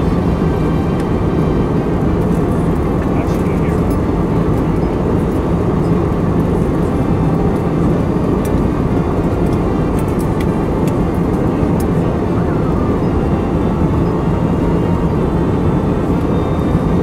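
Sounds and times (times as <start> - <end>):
jet engine rumble: 0.0 - 17.0
low cabin hum: 0.0 - 17.0.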